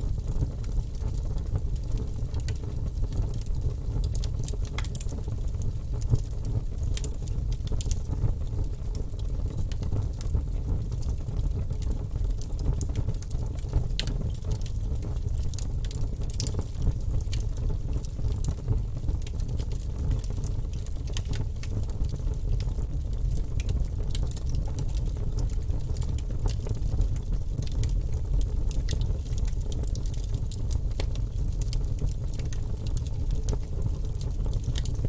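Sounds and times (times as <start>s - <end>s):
fire crackles and pops: 0.0s - 35.0s
low rumble of flames: 0.0s - 35.0s.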